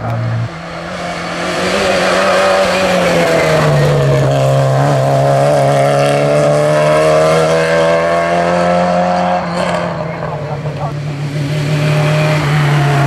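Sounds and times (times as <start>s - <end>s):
rally car engine running loud: 0.0s - 13.0s.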